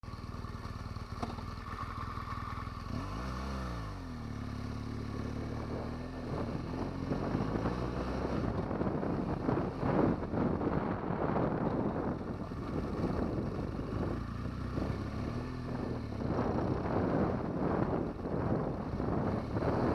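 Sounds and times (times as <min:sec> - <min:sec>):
motorcycle engine revving: 0:00.1 - 0:19.9.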